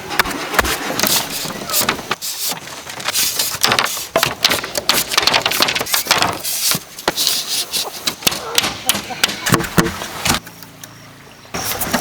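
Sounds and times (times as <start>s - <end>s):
bamboo scraping and rubbing: 0.0s - 10.4s, 11.6s - 12.0s
bamboo knocking and cracking: 0.1s - 10.5s.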